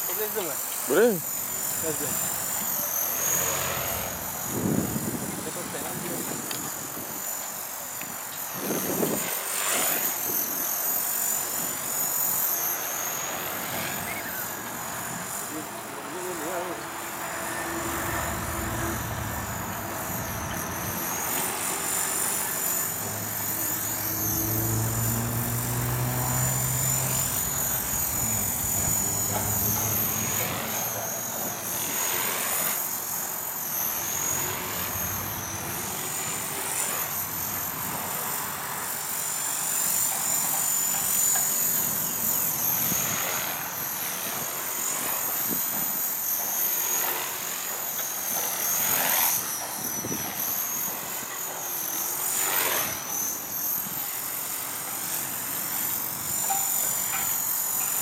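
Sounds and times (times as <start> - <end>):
rc helicopter whine: 0.0 - 58.0.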